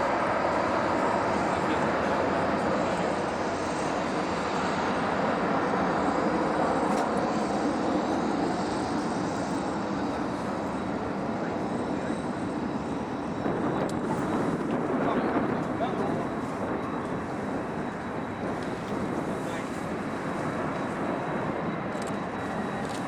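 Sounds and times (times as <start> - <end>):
jet airliner engine rush: 0.0 - 23.0.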